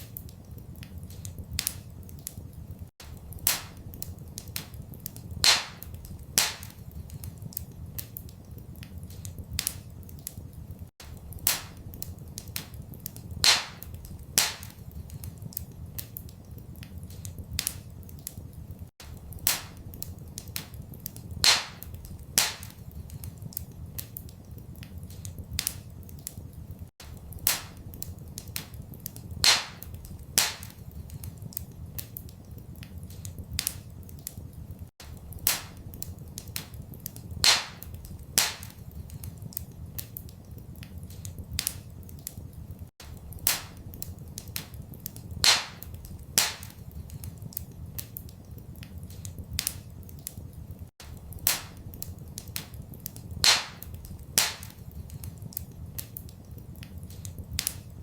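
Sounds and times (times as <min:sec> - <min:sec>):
fire popping: 0:00.0 - 0:58.0
wood fire crackling: 0:00.0 - 0:58.0.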